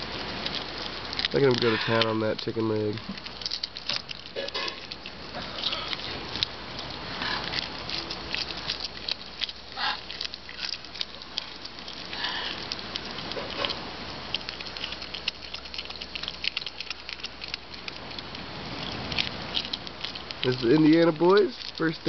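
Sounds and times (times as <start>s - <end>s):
animal chewing on bone: 0.0s - 22.0s.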